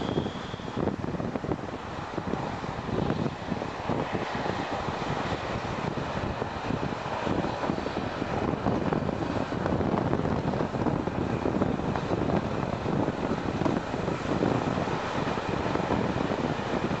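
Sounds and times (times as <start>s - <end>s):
train wheels rumbling on rails: 0.0s - 17.0s
wind rushing past microphone: 0.0s - 17.0s.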